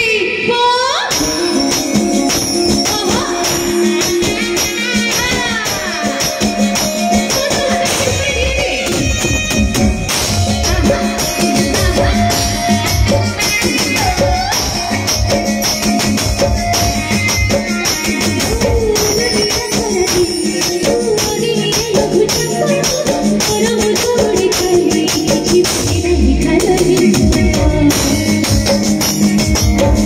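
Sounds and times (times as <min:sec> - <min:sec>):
woman singing: 0:00.0 - 0:09.6, 0:10.4 - 0:15.5, 0:18.4 - 0:29.0
electric guitar: 0:00.0 - 0:30.0
jingling percussion beat: 0:01.1 - 0:26.0, 0:26.6 - 0:30.0
keyboard: 0:01.1 - 0:30.0.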